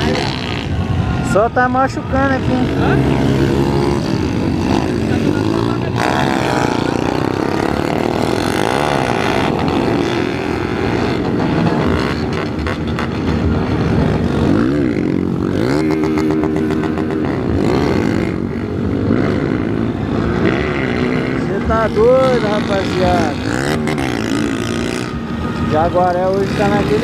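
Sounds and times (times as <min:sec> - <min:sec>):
motorcycle engines revving: 0:00.0 - 0:27.0.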